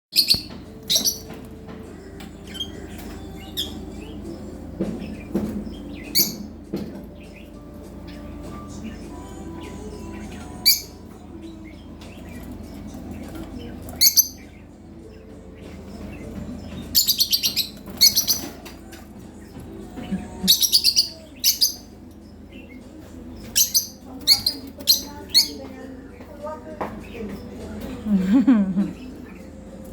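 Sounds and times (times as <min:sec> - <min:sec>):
lovebirds shrill chirps: 0:00.2 - 0:01.4, 0:02.2 - 0:25.8.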